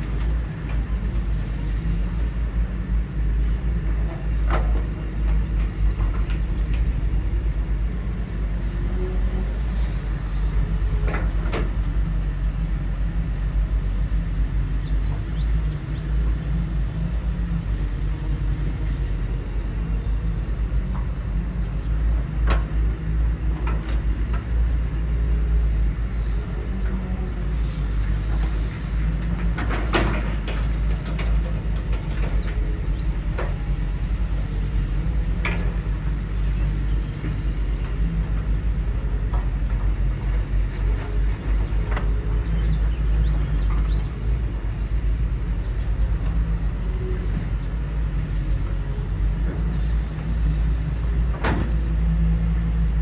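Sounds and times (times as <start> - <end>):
machinery rumbling: 0.0 - 53.0.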